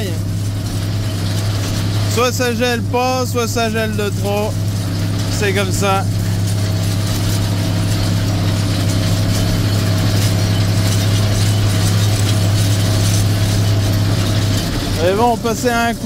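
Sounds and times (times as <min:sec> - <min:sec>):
mechanical rattle: 0:00.0 - 0:16.0
tractor engine drone: 0:00.0 - 0:16.0.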